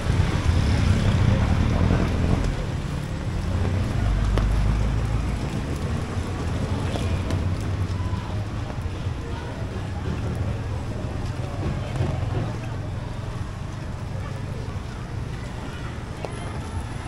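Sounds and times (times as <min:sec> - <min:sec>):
low rumble of street: 0:00.0 - 0:17.0.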